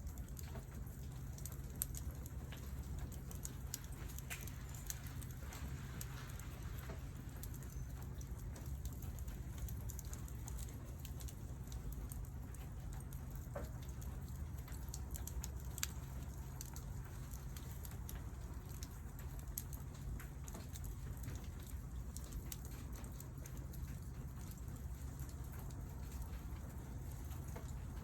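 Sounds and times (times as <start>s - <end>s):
campfire crackling: 0.0s - 28.0s
sharp pops and snaps: 0.0s - 28.0s.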